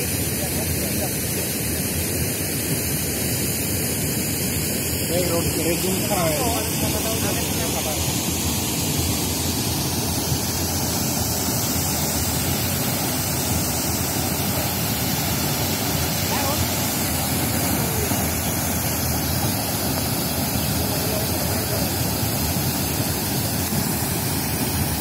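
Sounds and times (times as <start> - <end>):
floodwater rushing over bank: 0.0 - 25.0.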